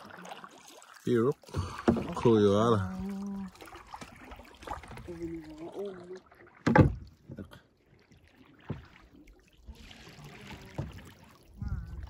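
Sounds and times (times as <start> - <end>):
paddle dipping in water: 0.0 - 12.0
water washing along hull: 0.0 - 12.0.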